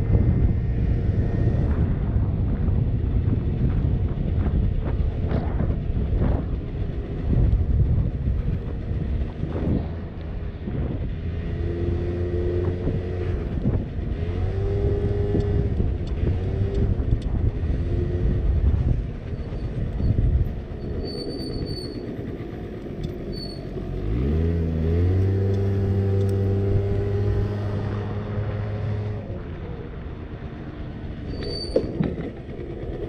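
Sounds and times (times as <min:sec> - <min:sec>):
road and wind rumble: 0:00.0 - 0:33.0
small motorbike engine running: 0:00.0 - 0:33.0.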